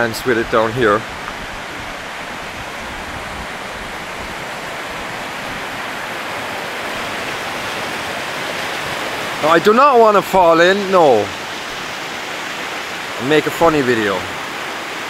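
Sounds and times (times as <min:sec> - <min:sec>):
fast stream rushing: 0:00.0 - 0:15.0.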